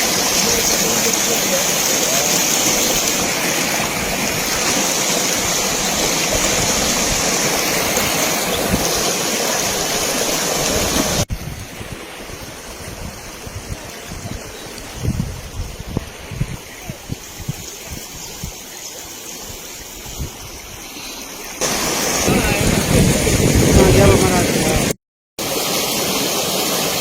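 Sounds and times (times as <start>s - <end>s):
rushing river water: 0.0s - 27.0s.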